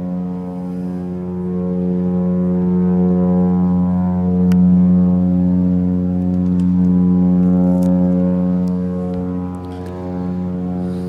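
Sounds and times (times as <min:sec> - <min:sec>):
ship horn deep blast: 0:00.0 - 0:11.0.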